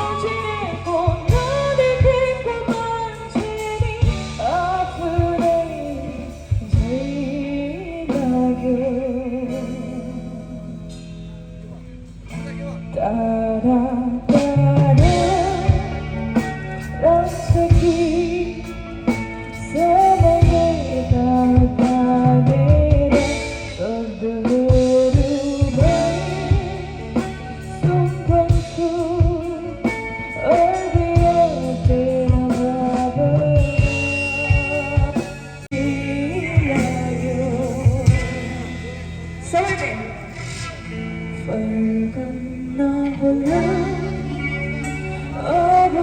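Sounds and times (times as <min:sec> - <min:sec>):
person singing: 0:00.0 - 0:11.1, 0:12.7 - 0:46.0
guitar bass and drums: 0:00.0 - 0:46.0.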